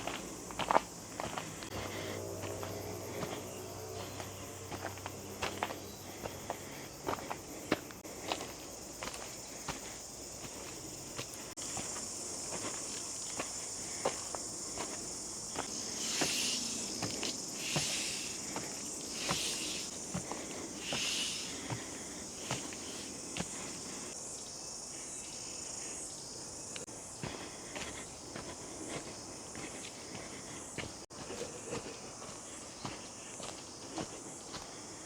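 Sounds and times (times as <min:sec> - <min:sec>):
footsteps on bush track: 0:00.0 - 0:24.2, 0:24.8 - 0:35.0
high-pitched insect chorus: 0:00.0 - 0:35.0.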